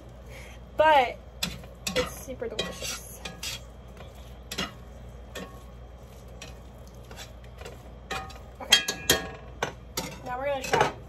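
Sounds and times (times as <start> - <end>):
steady low hum: 0.0 - 11.0
metal utensil scraping a skillet: 1.4 - 11.0.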